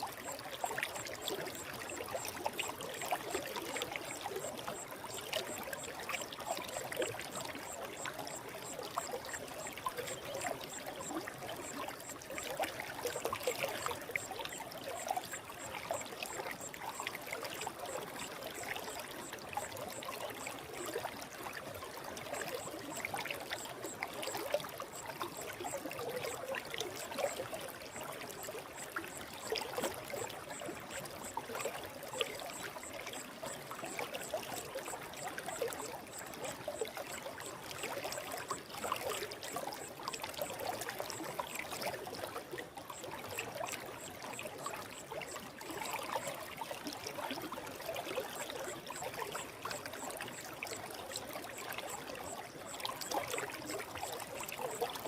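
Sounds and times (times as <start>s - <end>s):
stream bubbling and trickling: 0.0s - 55.0s.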